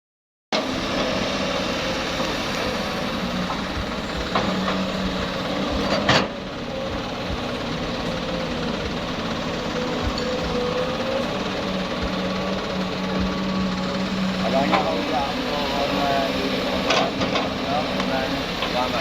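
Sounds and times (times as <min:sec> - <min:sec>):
diesel engine running: 0:00.6 - 0:19.0.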